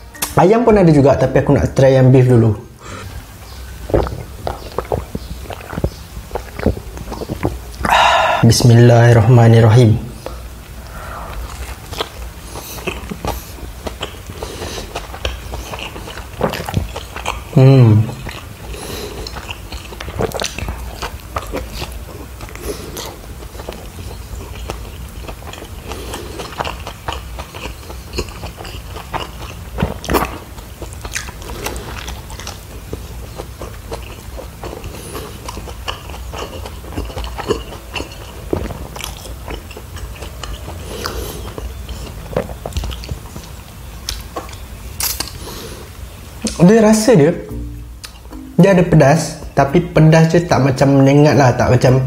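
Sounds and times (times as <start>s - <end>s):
faint low hum: 0.0s - 51.1s
man chewing food: 2.8s - 8.8s, 10.1s - 46.6s, 47.5s - 48.7s.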